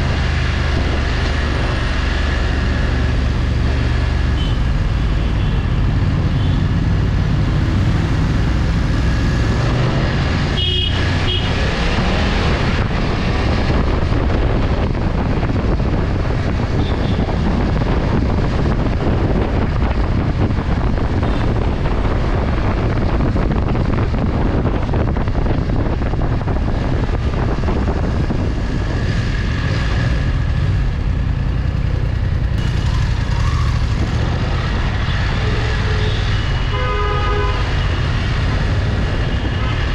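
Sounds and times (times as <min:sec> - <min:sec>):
traffic noise: 0:00.0 - 0:39.9
wind rush on microphone: 0:00.0 - 0:39.9.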